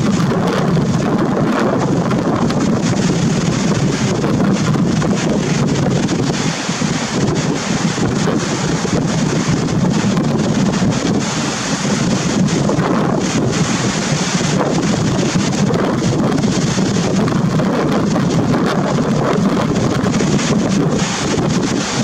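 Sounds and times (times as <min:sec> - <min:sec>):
choppy sea waves: 0:00.0 - 0:22.0
wind buffeting microphone: 0:00.0 - 0:22.0.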